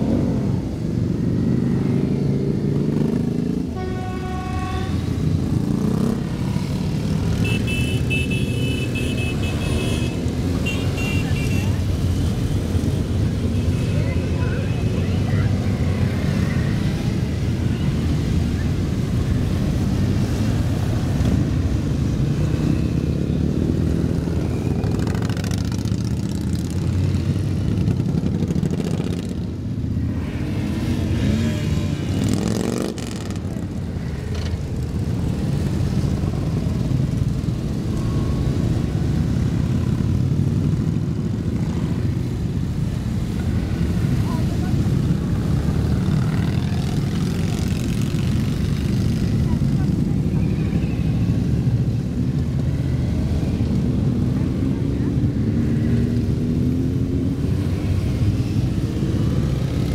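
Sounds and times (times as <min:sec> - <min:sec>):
motorcycles riding past: 0:00.0 - 0:04.0, 0:04.6 - 0:59.9.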